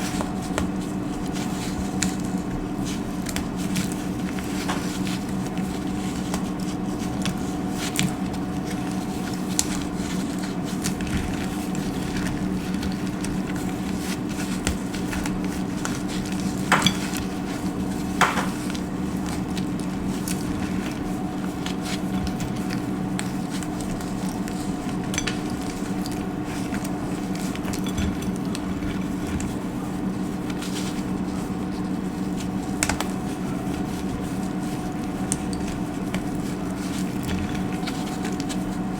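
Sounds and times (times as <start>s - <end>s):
dry soap crackling: 0.0s - 38.9s.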